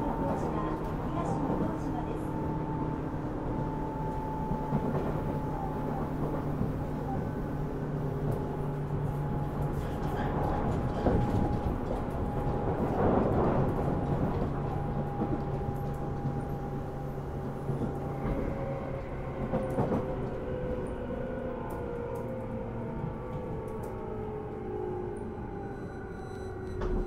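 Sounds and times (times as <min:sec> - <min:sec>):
train wheels rumbling on rails: 0:00.0 - 0:25.8.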